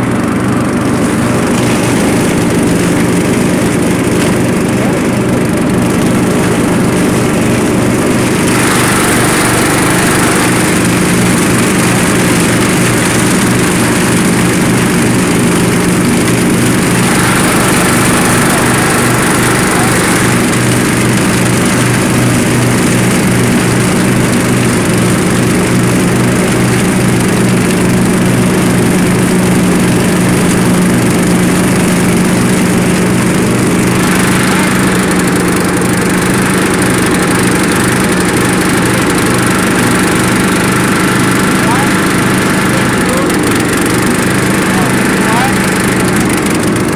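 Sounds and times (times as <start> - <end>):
riding mower engine running: 0.0 - 46.9.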